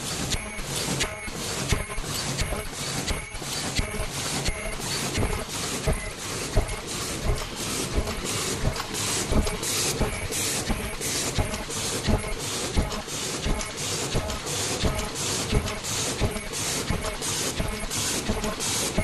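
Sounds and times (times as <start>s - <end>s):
machine rhythmic clatter: 0.0s - 19.0s.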